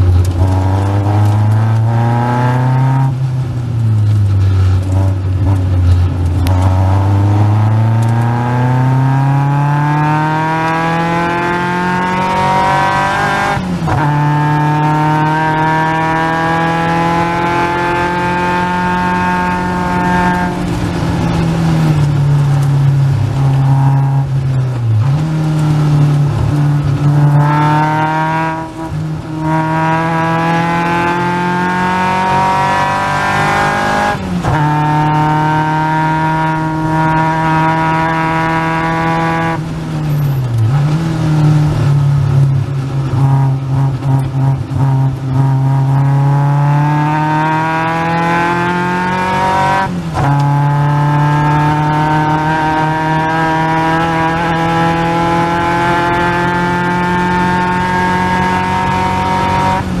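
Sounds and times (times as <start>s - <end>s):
racing car engine revving: 0.0s - 60.0s.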